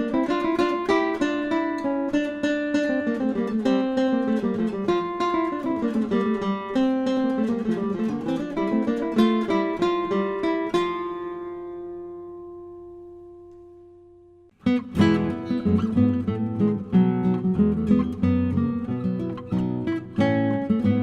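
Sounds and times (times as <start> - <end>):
plucked string instrument melody: 0.0 - 21.0.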